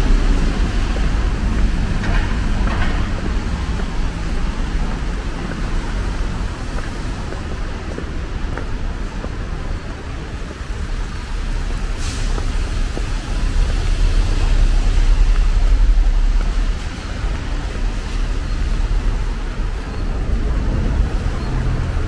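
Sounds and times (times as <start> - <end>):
traffic on wet street: 0.0 - 22.0.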